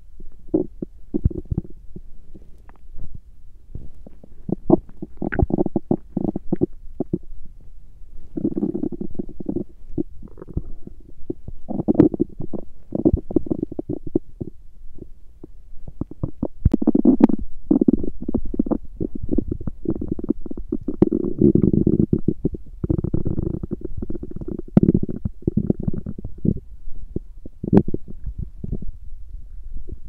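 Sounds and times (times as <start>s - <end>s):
stomach growling and gurgling: 0.0s - 7.3s, 8.2s - 30.0s.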